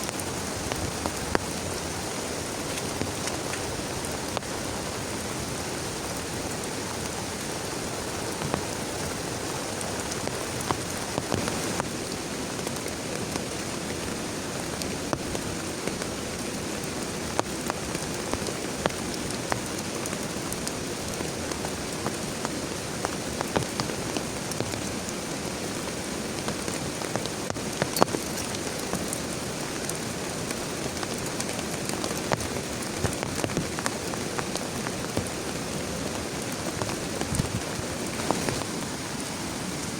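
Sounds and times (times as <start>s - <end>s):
heavy rain: 0.0s - 39.9s
raindrops striking a surface: 0.0s - 39.9s.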